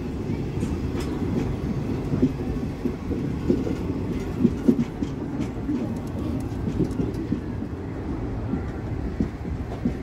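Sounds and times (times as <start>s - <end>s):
train rumbling along track: 0.0s - 10.0s
wheels clicking over rail joints: 0.0s - 10.0s.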